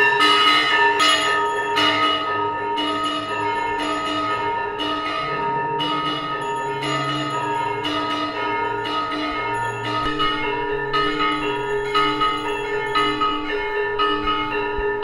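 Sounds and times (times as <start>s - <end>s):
temple bells ringing: 0.0s - 15.0s.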